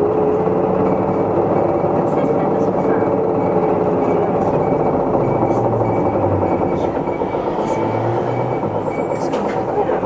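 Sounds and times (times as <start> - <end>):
bus diesel drone: 0.0 - 10.0
road noise: 0.3 - 10.0.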